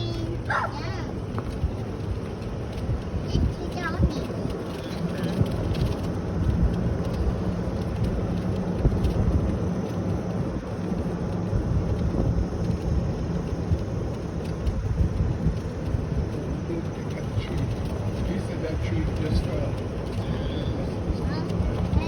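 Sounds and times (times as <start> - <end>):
road noise: 0.0 - 22.0
vehicle engine: 0.0 - 22.0.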